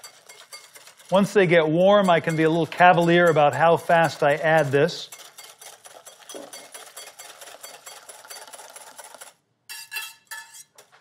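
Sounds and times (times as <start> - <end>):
whisk clattering in glass bowl: 0.0 - 10.8.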